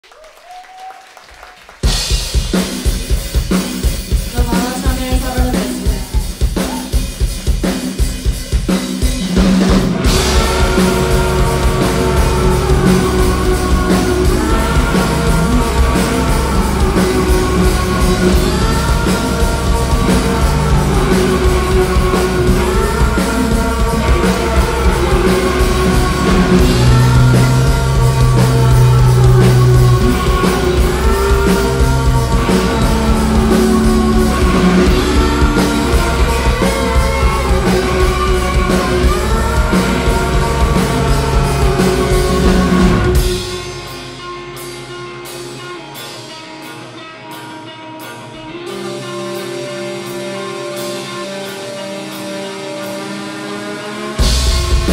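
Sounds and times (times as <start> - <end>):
rock band playing loudly: 1.4 - 54.9
electric guitar picking quietly: 9.8 - 54.9.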